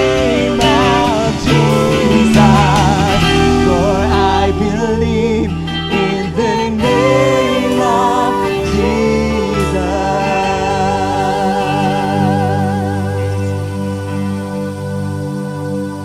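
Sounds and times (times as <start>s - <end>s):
guitar: 0.0s - 16.0s
voices singing with vibrato: 0.0s - 16.0s.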